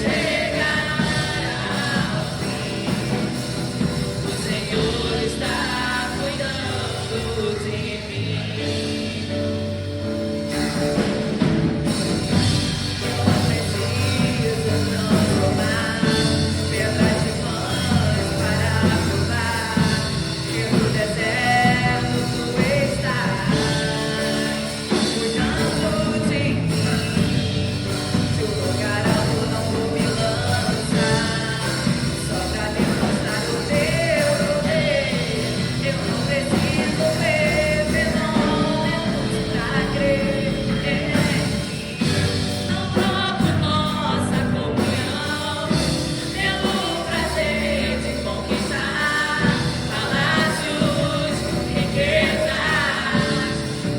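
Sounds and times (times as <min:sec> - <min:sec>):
live worship band: 0:00.0 - 0:53.9
person singing: 0:00.0 - 0:53.9.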